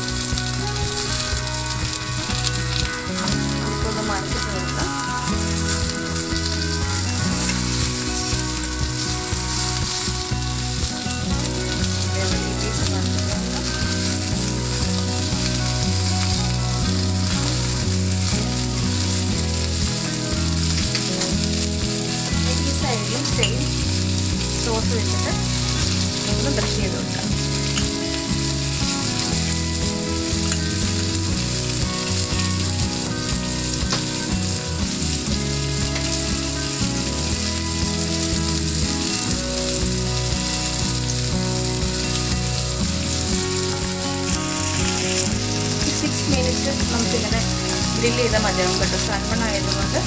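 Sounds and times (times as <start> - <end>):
fish frying in butter: 0.0 - 50.0.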